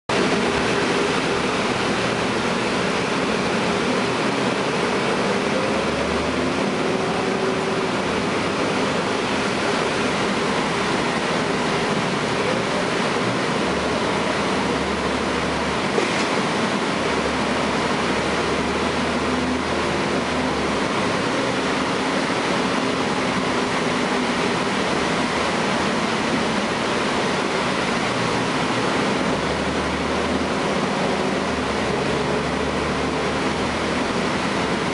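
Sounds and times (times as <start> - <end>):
bus diesel engine running: 0.1 - 34.9
rush of driving noise: 0.1 - 34.9.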